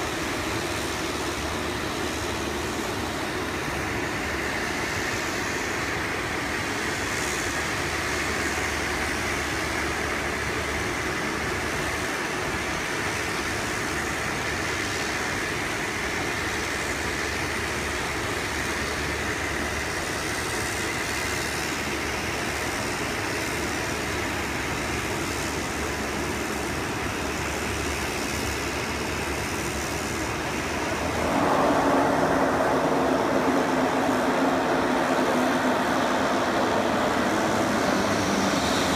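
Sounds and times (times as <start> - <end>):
propeller hum: 0.0 - 38.9
turboprop engine drone: 0.0 - 38.9.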